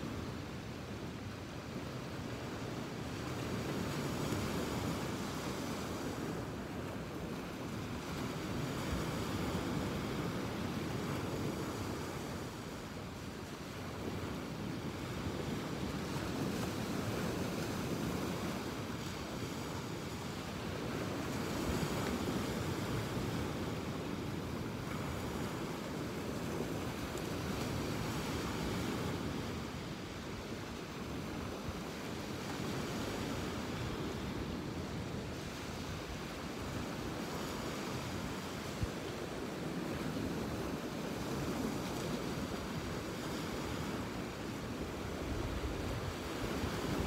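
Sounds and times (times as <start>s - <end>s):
ocean surf washing onto beach: 0.0s - 47.0s.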